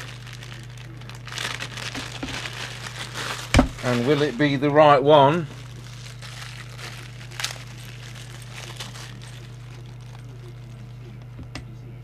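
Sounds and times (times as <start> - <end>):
plastic packaging crinkling: 0.0 - 11.3
steady low hum: 0.0 - 12.0.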